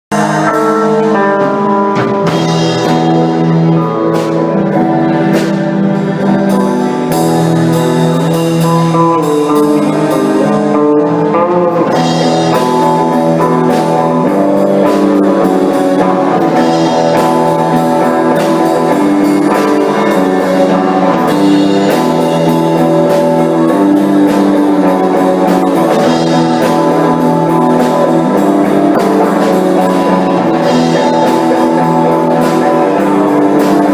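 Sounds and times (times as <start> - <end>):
instrumental rock band playing: 0.1 - 33.9.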